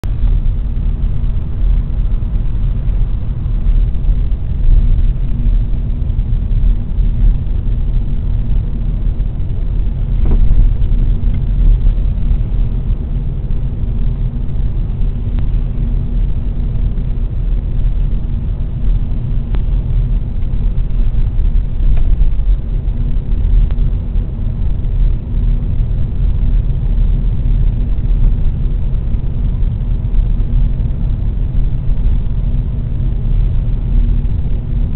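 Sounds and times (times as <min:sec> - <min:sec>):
car road rumble: 0:00.0 - 0:34.9.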